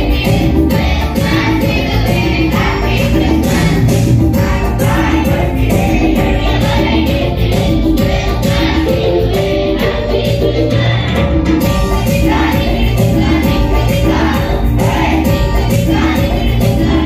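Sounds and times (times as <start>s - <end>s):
children's choir singing: 0.0s - 17.0s
music with steady beat: 0.0s - 17.0s.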